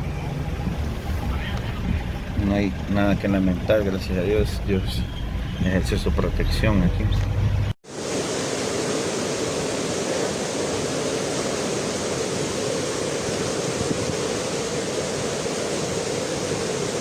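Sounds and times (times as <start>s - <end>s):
flooded river rushing: 0.0s - 17.0s.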